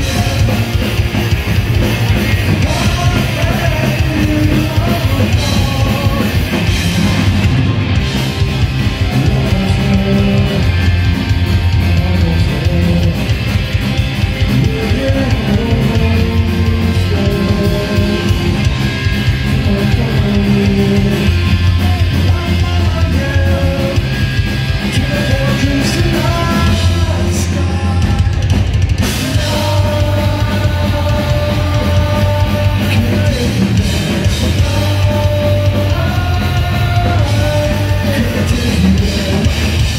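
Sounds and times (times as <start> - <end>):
person singing: 0.0 - 7.3, 8.8 - 13.5, 14.4 - 24.2, 24.8 - 39.9
live punk rock band: 0.0 - 39.9.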